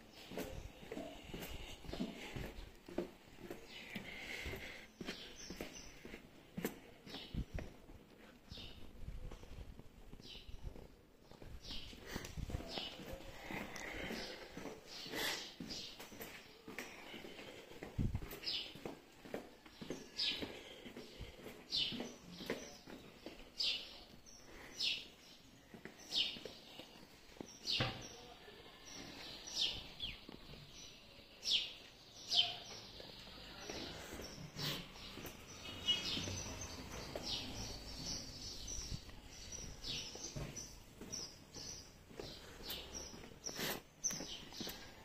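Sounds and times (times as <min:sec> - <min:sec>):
footsteps on stone paving: 0:00.0 - 0:28.2, 0:28.8 - 0:32.2, 0:32.8 - 0:45.0.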